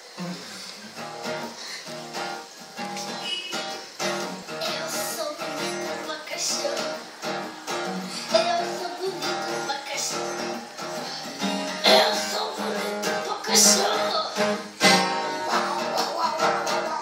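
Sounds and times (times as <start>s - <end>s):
song with strummed acoustic guitar: 0.0s - 17.0s.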